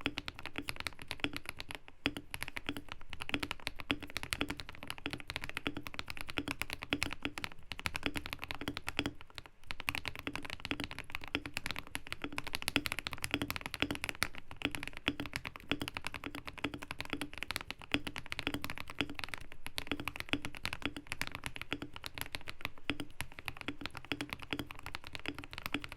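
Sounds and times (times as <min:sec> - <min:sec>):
fast typing on mechanical keyboard: 0:00.0 - 0:25.9.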